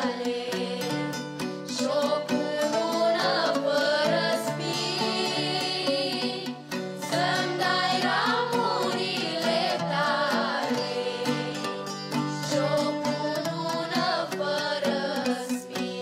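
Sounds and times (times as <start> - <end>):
strummed lute: 0.0 - 16.0.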